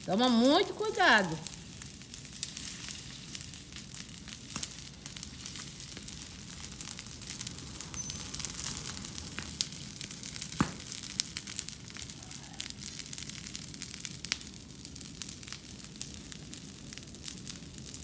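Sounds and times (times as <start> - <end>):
brush fire crackling and popping: 0.0 - 18.0.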